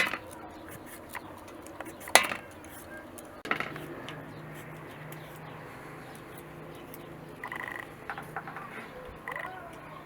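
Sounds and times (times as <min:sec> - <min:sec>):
metal kitchenware clattering: 0:01.8 - 0:10.0.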